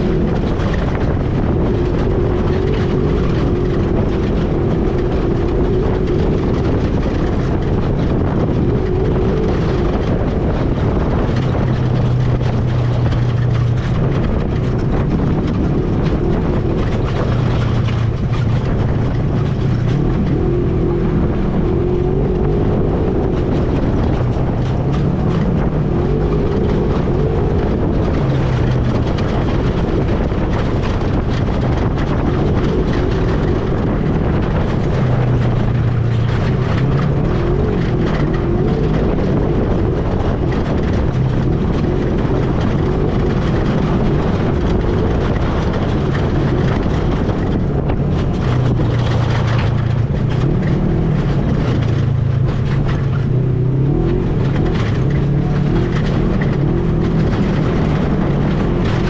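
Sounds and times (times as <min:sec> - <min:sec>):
atv engine revving: 0:00.0 - 0:59.0
wind and ride noise: 0:00.0 - 0:59.0.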